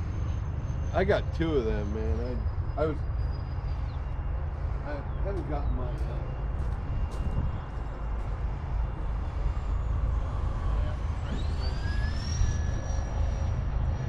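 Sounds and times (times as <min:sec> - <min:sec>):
electric fans whining: 0:00.0 - 0:14.0
wind rumble on microphone: 0:00.0 - 0:14.0.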